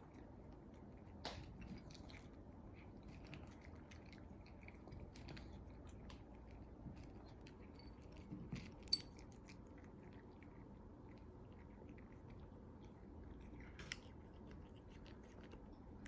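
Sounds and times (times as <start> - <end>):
cat chewing and crunching food: 0.0 - 16.0.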